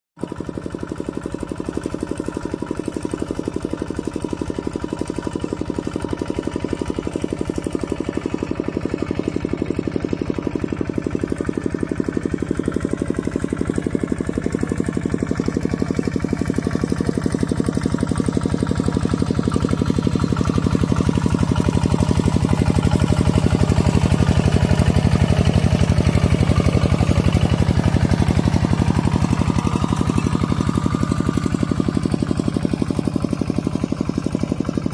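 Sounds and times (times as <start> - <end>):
tractor engine chugging: 0.2 - 34.9.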